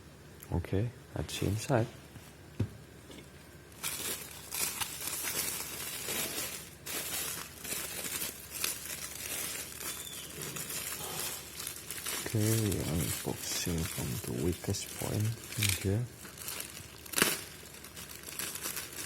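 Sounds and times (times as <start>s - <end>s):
packaging crinkling and tearing: 3.7s - 19.0s.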